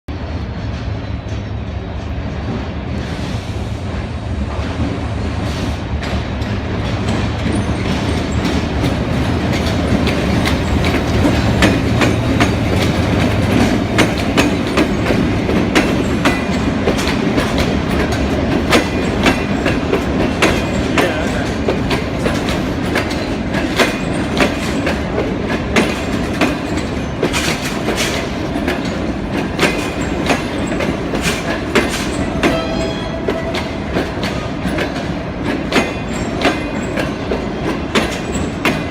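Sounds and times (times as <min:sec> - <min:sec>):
train rumble: 0:00.1 - 0:38.9
wheels clacking over rail joints: 0:06.0 - 0:38.9.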